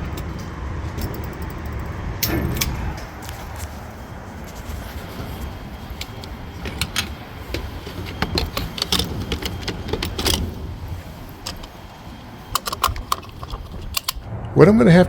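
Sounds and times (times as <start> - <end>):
metal clicking and jingling: 0.0 - 3.1, 5.0 - 14.3
vehicle rumble: 0.0 - 15.0.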